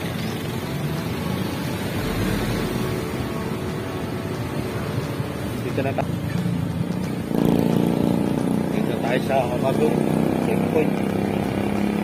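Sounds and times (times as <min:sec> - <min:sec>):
car driving: 0:00.0 - 0:12.0.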